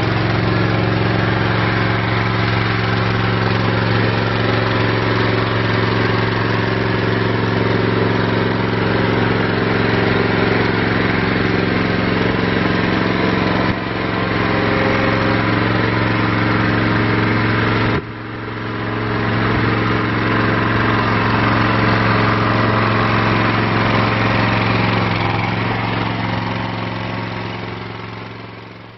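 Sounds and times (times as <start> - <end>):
small gasoline engine running: 0.0 - 28.9.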